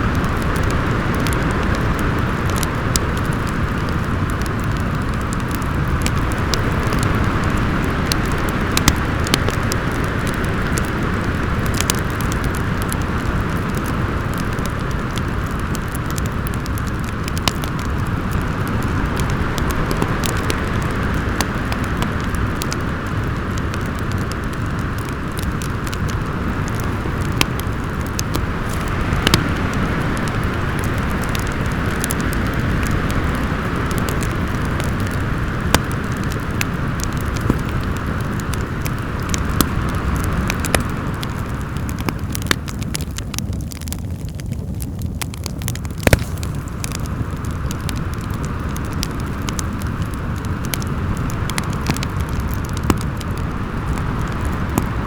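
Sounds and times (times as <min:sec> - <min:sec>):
howling wind: 0:00.0 - 0:55.0
wood fire crackling and popping: 0:00.0 - 0:55.0.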